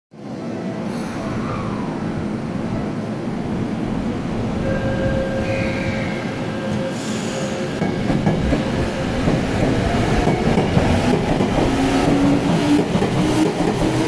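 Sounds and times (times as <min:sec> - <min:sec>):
electric train rumbling on rails: 0:00.2 - 0:14.0.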